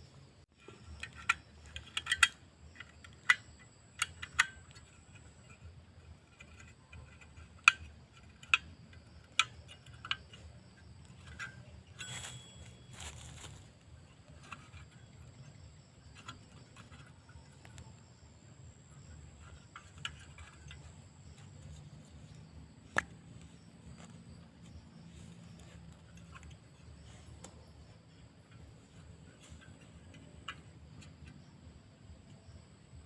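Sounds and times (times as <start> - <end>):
faint high insect tone: 0.0 - 33.0
low background noise: 0.0 - 33.0
metallic clinks and knocks: 0.6 - 33.0.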